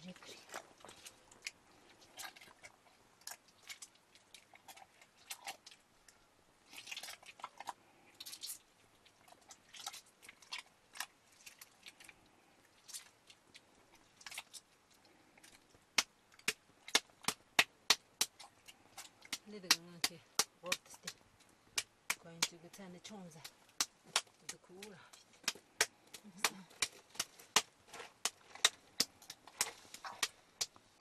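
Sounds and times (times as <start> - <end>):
wet squelches of butter: 0.0 - 31.0.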